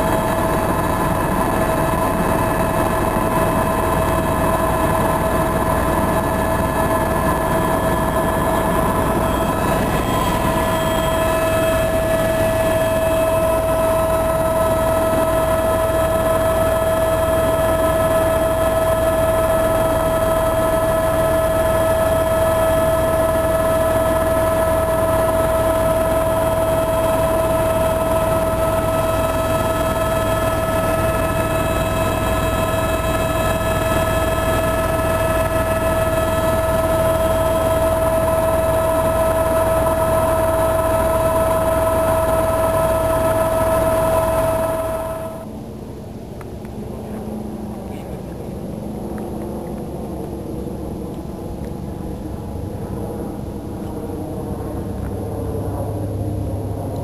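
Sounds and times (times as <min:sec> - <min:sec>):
constant whine: 0:00.0 - 0:57.0
helicopter cabin drone: 0:00.0 - 0:57.0.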